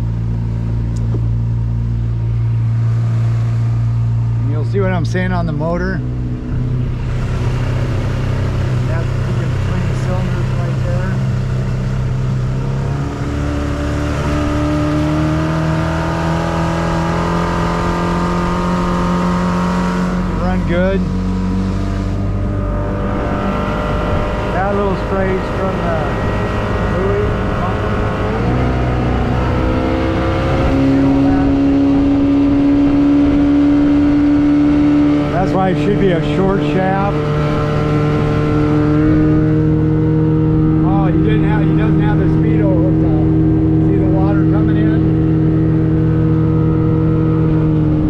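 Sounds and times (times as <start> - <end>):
outboard motor revving: 0.0 - 48.0
wind: 0.0 - 48.0.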